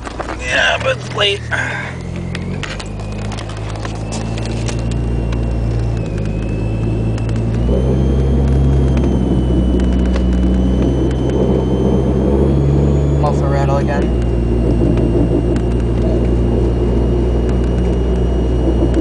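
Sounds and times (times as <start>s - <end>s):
car engine drone: 0.0s - 19.0s
road rumble: 0.0s - 19.0s
thin high whine: 0.2s - 19.0s.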